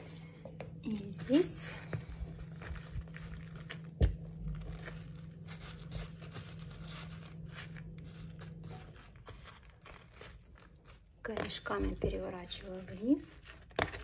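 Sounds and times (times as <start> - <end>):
moss rustling and crackling: 1.0 - 13.6.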